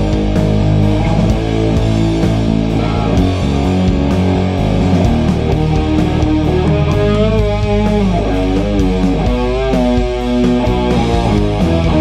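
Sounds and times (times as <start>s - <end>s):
heavy doom metal guitar riff: 0.0s - 12.0s
lead guitar with wide vibrato: 0.0s - 12.0s.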